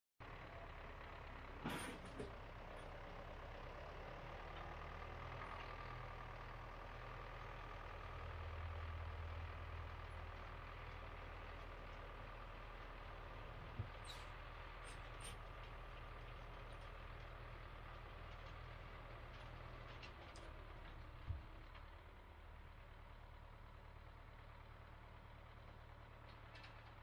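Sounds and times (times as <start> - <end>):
tractor engine running under load: 0.2 - 27.0.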